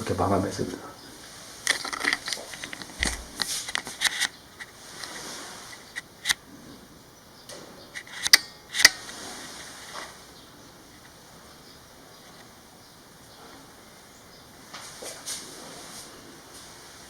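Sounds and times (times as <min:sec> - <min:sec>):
light rustling: 0:01.0 - 0:06.9, 0:07.5 - 0:17.0.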